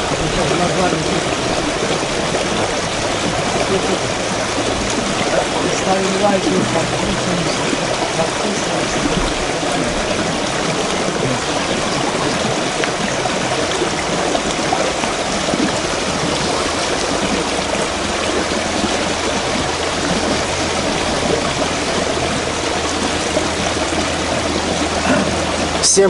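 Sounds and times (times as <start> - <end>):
stream flowing over stones: 0.0 - 26.0.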